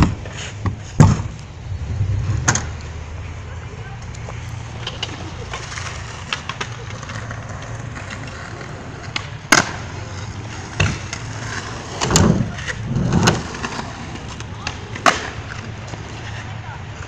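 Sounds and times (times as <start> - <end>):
scooter wheels rolling on concrete: 0.0 - 1.9, 2.5 - 17.0.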